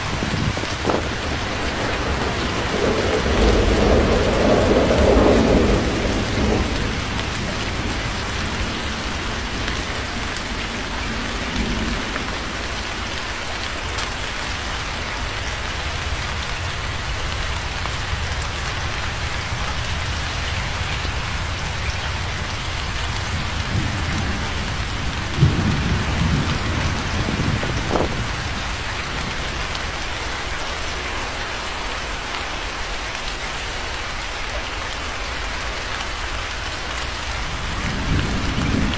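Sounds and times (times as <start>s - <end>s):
rolling thunder: 0.0s - 30.4s, 36.3s - 38.9s
steady rain falling: 0.0s - 38.9s.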